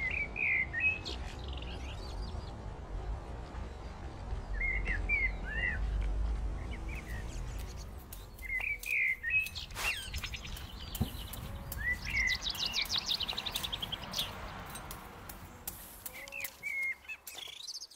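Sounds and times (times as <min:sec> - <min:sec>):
songbirds chirping: 0:00.0 - 0:17.9.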